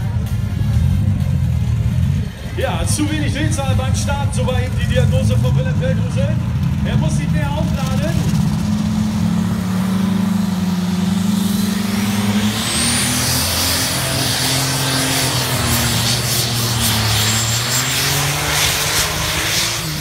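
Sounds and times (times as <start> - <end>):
high whine: 0.0 - 20.0
tractor engine running hard: 0.0 - 20.0.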